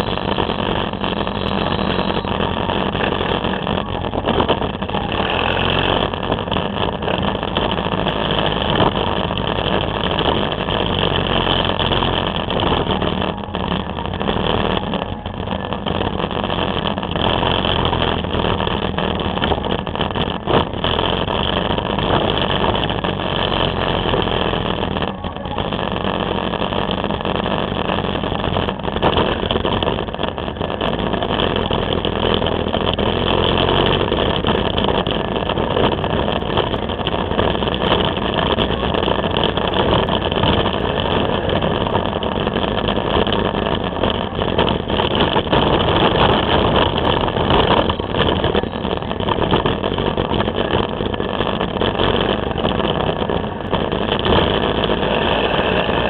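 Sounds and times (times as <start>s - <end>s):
motorbike engine running: 0.0s - 56.0s
road noise: 0.0s - 56.0s
wind: 0.0s - 56.0s.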